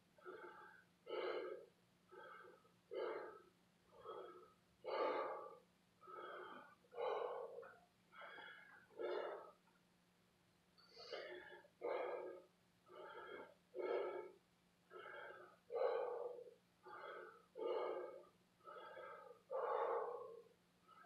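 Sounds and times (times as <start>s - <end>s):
man breathing hard: 0.2s - 9.8s, 10.8s - 21.0s.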